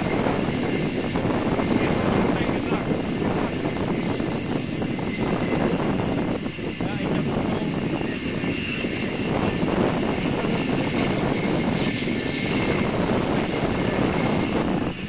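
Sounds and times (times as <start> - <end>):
jet engine rush with high whine: 0.0 - 15.0.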